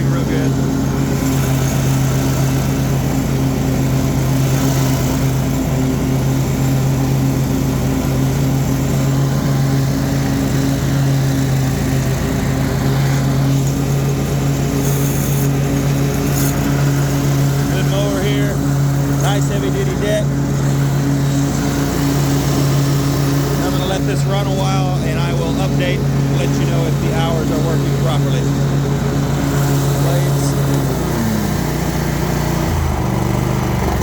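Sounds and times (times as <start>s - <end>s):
mower engine running: 0.0s - 34.0s.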